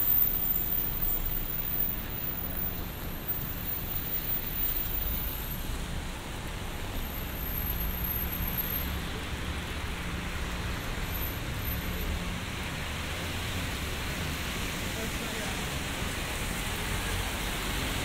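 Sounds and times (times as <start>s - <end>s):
hiss of rain and wet road: 0.0s - 18.0s.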